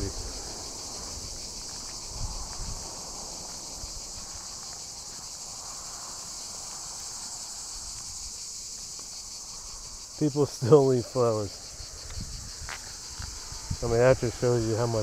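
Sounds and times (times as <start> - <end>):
insects chorus: 0.0 - 15.0.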